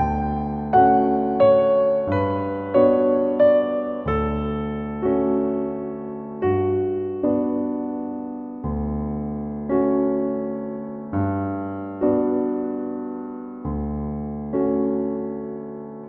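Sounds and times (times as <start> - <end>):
slow electric piano chords: 0.0 - 16.0.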